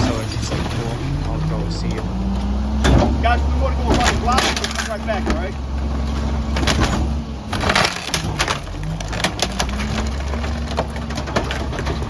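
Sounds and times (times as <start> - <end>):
hydraulics whirring: 0.0 - 12.0
truck engine running: 0.0 - 12.0
wood cracking and splintering: 0.0 - 12.0.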